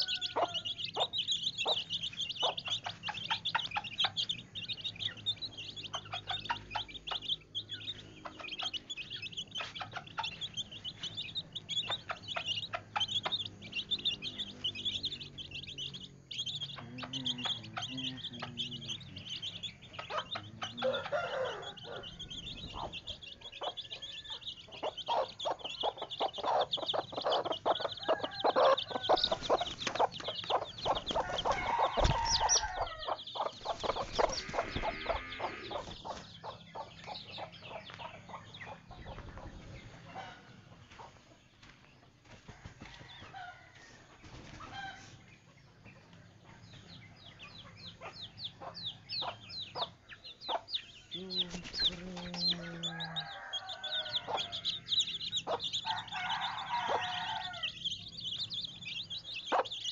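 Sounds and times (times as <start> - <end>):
chickens clucking: 0.0 - 59.9
small birds chirping: 0.0 - 59.9.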